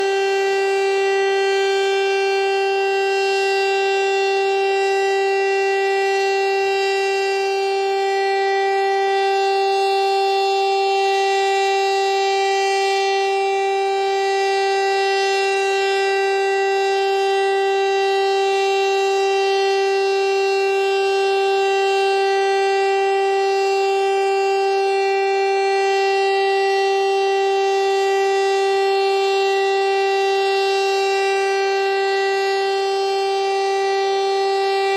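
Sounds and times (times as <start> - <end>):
siren steady tone: 0.0 - 34.9.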